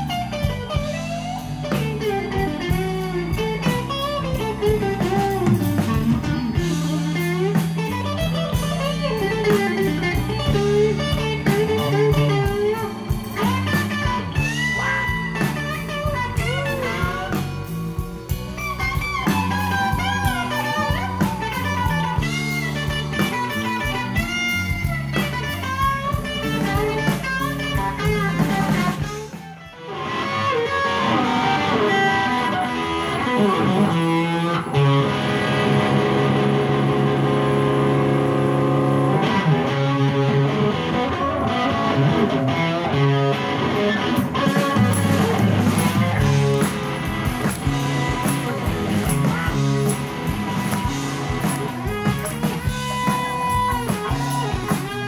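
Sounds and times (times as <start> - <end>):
blues band playing: 0.0 - 55.0
electric guitar solo with string bends: 0.0 - 55.0.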